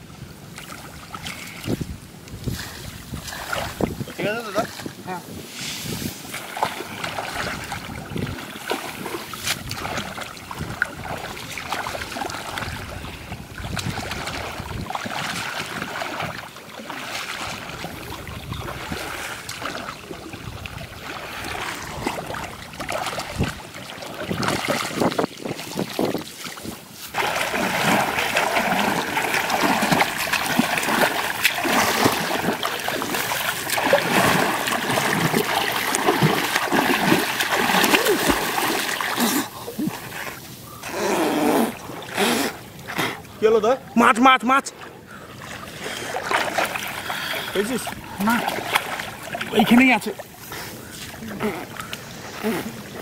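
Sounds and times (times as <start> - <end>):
water sloshing and splashing: 0.0 - 53.0.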